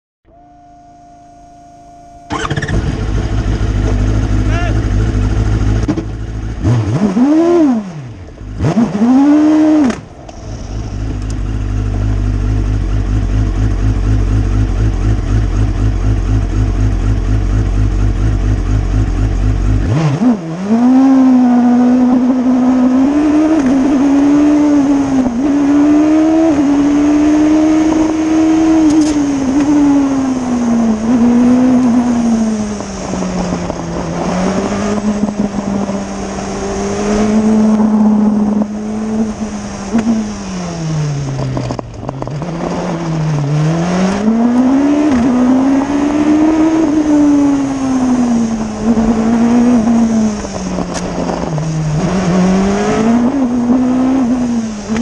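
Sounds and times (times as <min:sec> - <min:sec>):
race car engine revving: 0:01.4 - 0:55.0.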